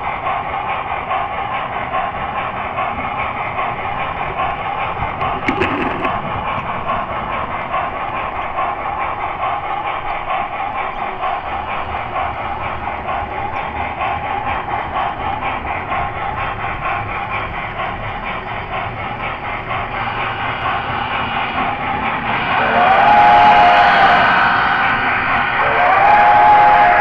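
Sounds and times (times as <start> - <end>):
model train wheels clattering on rails: 0.0 - 27.0.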